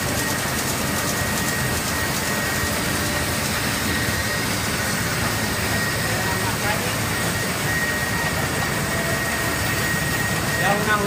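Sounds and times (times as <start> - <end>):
high whine: 0.0 - 11.0
printing press whirring: 0.0 - 11.0.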